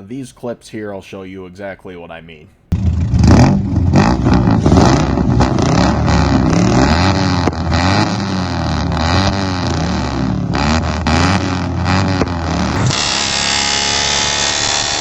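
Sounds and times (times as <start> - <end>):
four-cylinder engine revving: 2.7 - 15.0.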